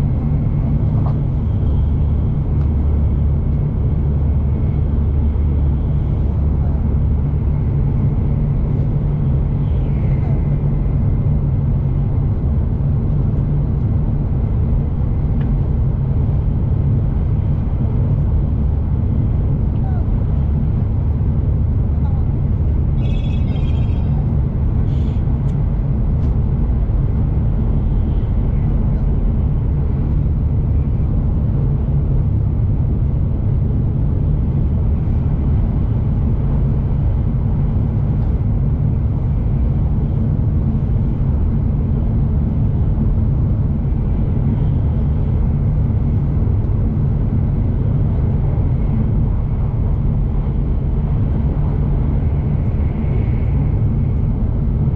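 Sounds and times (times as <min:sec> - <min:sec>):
train rumble inside cabin: 0:00.0 - 0:54.9.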